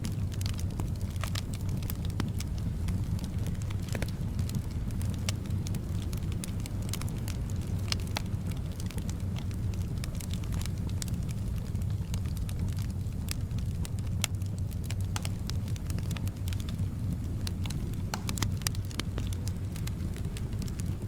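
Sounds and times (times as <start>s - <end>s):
soft wind rumble: 0.0s - 21.0s
wood fire crackling and popping: 0.0s - 21.0s.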